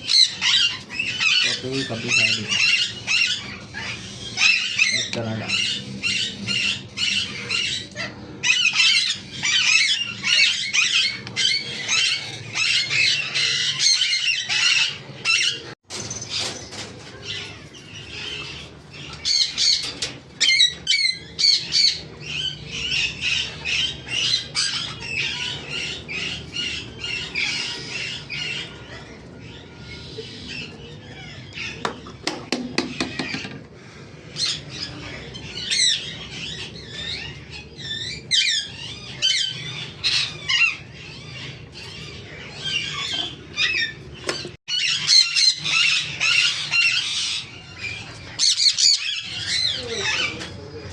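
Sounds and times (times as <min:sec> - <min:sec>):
parrot chicks squawking: 0:00.0 - 0:50.9.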